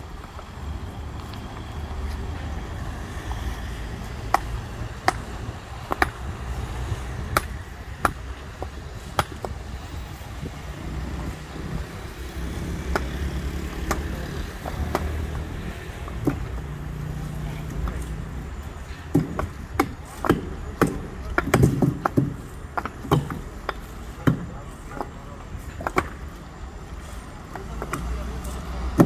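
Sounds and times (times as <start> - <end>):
paving stones clacking: 0.0 - 29.0.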